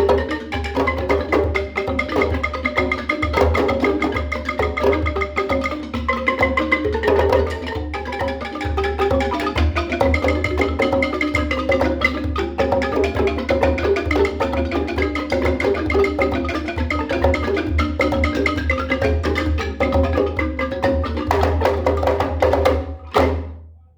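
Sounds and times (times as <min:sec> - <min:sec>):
wooden xylophone played fast: 0:00.0 - 0:23.7.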